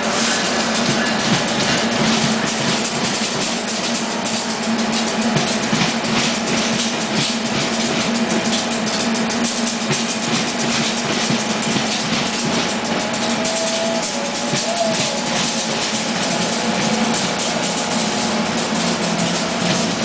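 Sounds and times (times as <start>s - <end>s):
rapid clicking over rail joints: 0.0s - 20.0s
train wheels rumbling on rails: 0.0s - 20.0s.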